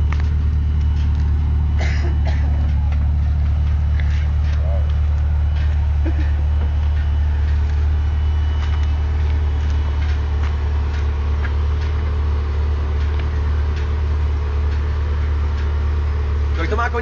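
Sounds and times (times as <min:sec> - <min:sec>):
car engine idling: 0:00.0 - 0:17.0
faint whine: 0:00.0 - 0:17.0.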